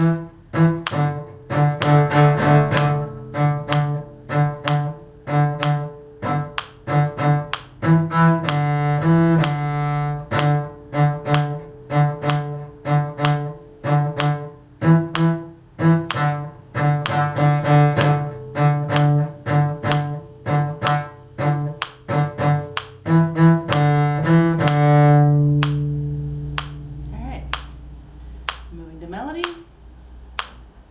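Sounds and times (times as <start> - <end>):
cello bowing detached notes: 0.0 - 29.6.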